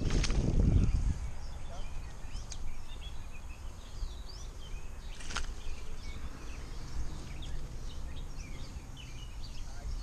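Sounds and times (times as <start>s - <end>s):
birds chirping and singing: 0.0s - 10.0s.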